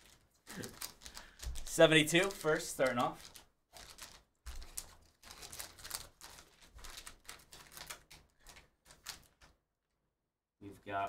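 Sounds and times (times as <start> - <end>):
plastic pouch crinkling and tearing: 0.0 - 9.6.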